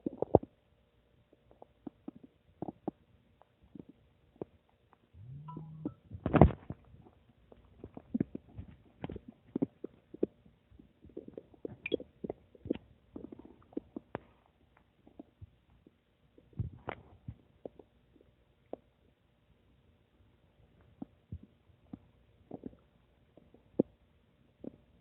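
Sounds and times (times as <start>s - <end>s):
stomach gurgling: 0.0s - 0.6s, 1.3s - 5.4s, 6.2s - 19.0s, 20.8s - 25.0s.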